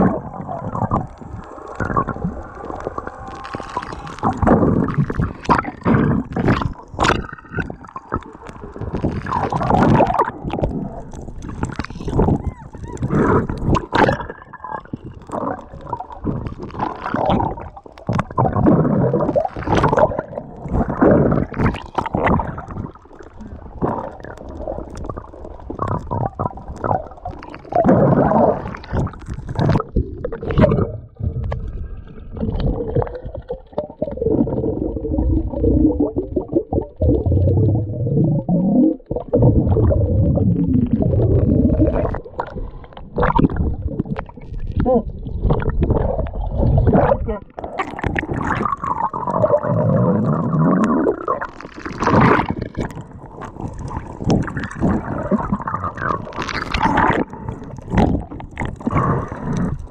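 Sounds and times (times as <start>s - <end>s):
muffled underwater gurgling: 0.0s - 59.9s.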